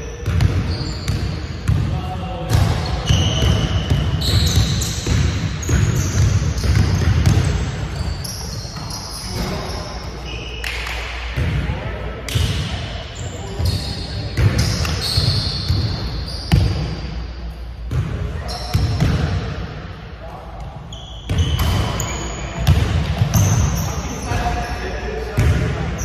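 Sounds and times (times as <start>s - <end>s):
sneakers squeaking: 0.0s - 11.6s, 12.3s - 19.5s, 20.5s - 26.0s.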